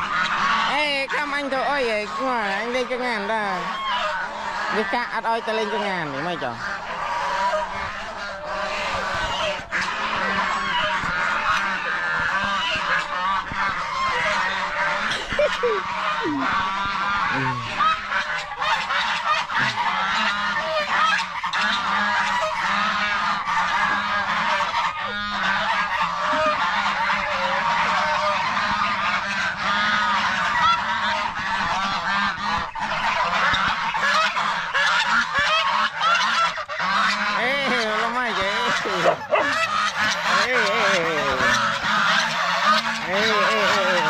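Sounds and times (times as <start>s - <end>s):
geese honking: 0.0s - 44.0s.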